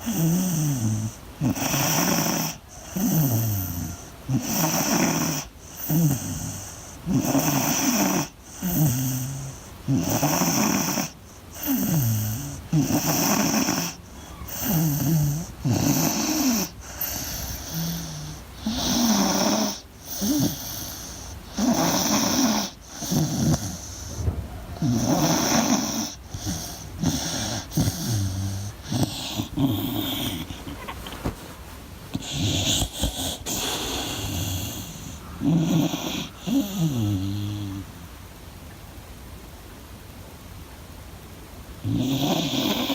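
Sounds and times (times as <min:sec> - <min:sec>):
dog snoring: 0:00.0 - 0:31.4, 0:32.1 - 0:38.0, 0:41.8 - 0:42.9.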